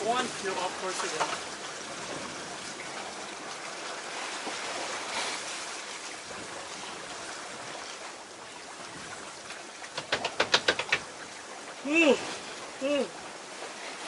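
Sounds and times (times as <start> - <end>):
water and wind rushing: 0.0 - 14.0.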